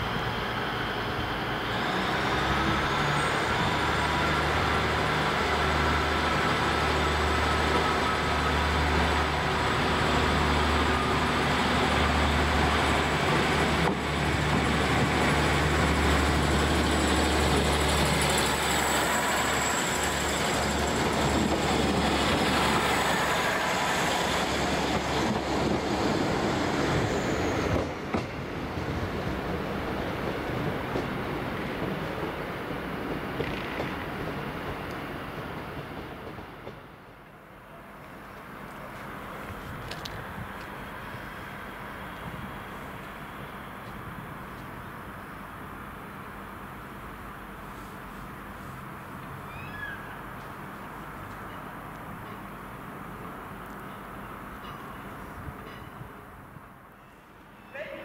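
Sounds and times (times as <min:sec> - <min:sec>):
wheels rumbling on rails: 0:00.0 - 0:56.8
train engine drone: 0:00.0 - 0:58.0.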